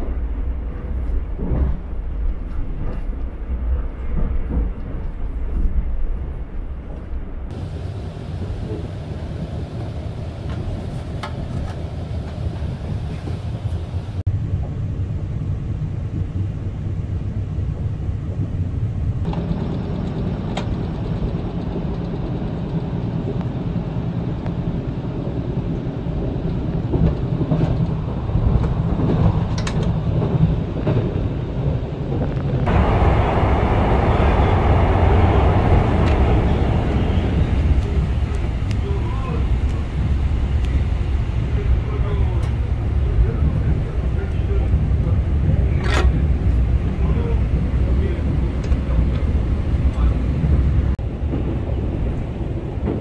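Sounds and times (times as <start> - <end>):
train rumbling inside carriage: 0.0 - 53.0.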